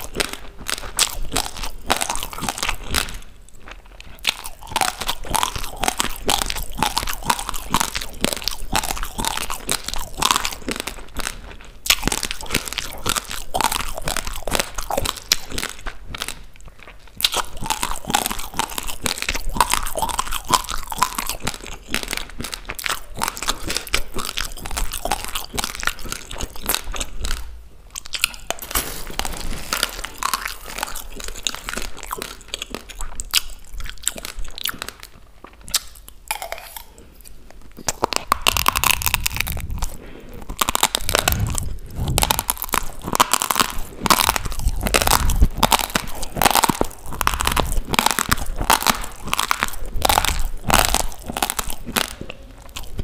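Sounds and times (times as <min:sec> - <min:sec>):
rice grains crunching: 0:00.0 - 0:37.0, 0:37.7 - 0:53.0.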